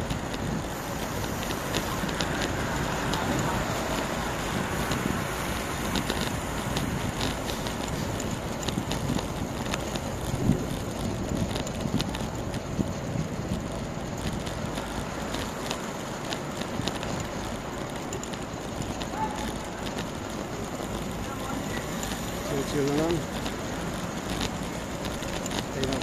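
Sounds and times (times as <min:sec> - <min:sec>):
bicycle clicks and rattles: 0:00.0 - 0:26.0
tyre noise on road: 0:00.0 - 0:26.0
wind rushing over microphone: 0:00.0 - 0:26.0.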